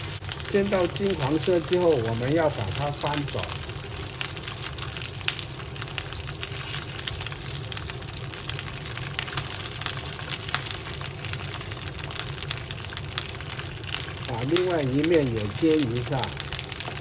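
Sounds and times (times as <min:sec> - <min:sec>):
oil crackles and pops: 0:00.0 - 0:17.0
peppers frying in hot oil: 0:00.0 - 0:17.0.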